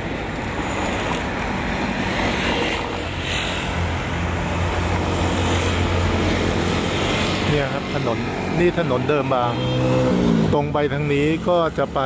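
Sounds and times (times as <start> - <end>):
road traffic passing: 0.0 - 12.0
vehicle engine hum: 0.0 - 12.0.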